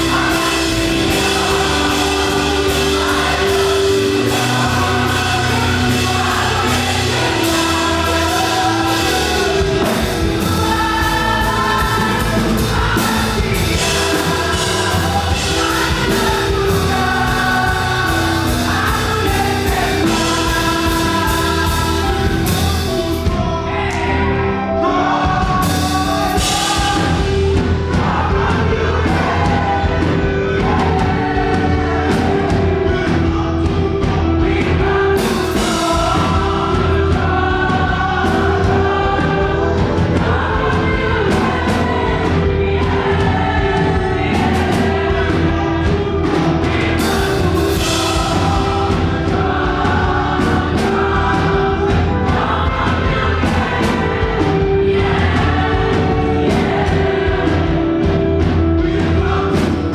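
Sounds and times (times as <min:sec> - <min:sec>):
band with heavy bass and drums: 0:00.0 - 0:59.9
group singing gospel: 0:00.0 - 0:59.9.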